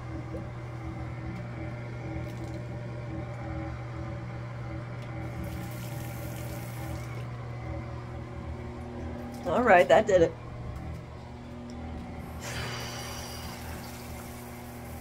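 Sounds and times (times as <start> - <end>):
exhaust fan humming: 0.0 - 15.0.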